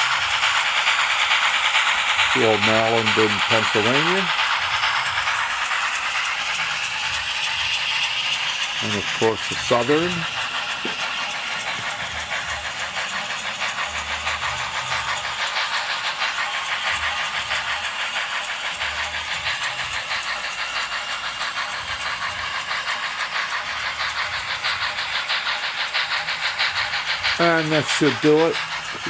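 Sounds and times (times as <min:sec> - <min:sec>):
model train rattling on rails: 0:00.0 - 0:29.0.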